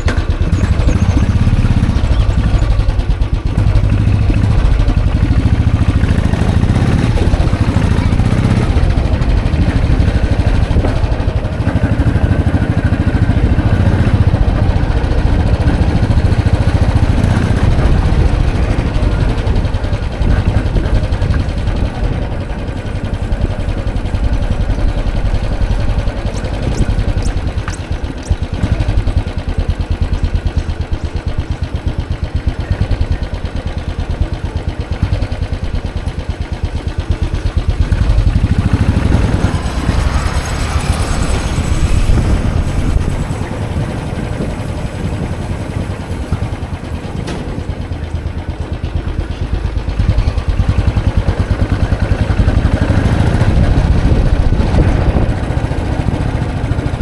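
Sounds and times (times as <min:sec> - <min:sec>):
motorcycle engine thumping: 0:00.0 - 0:57.0.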